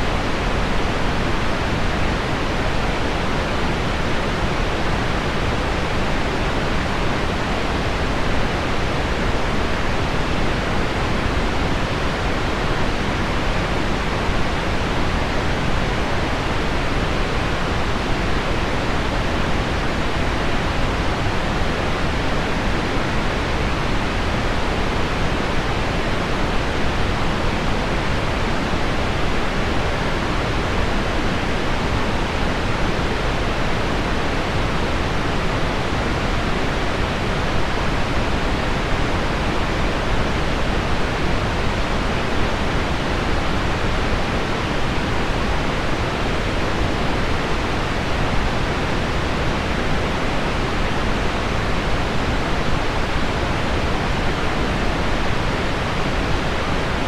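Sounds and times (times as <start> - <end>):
low pink noise: 0.0 - 57.0.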